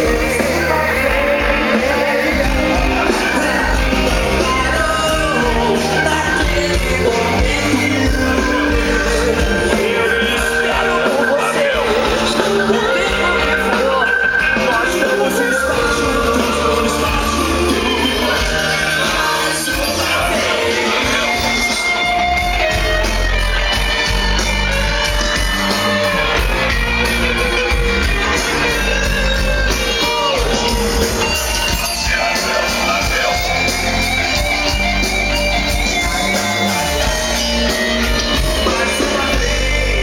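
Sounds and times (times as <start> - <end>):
music with heavy bass beat: 0.0 - 40.0.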